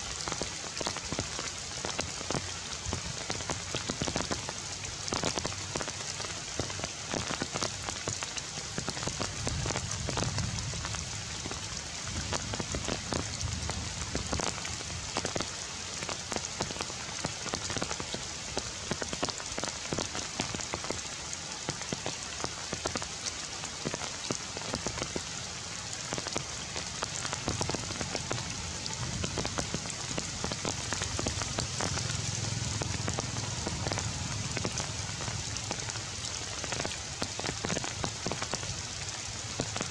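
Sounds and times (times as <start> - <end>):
rain falling on leaves: 0.0 - 39.9
raindrops ticking: 0.0 - 39.9.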